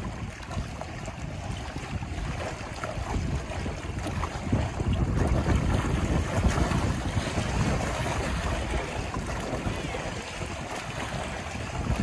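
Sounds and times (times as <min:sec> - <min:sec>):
waves splashing against rocks: 0:00.0 - 0:12.0
wind buffeting microphone: 0:00.0 - 0:12.0.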